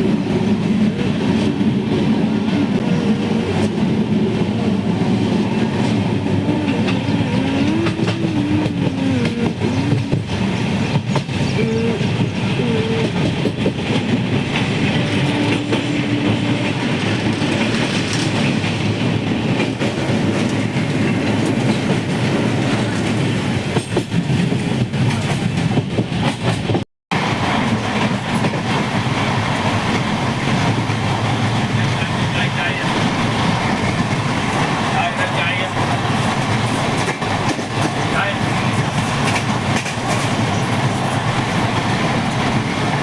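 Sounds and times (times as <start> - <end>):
train wheels clattering on track: 0.0 - 43.0.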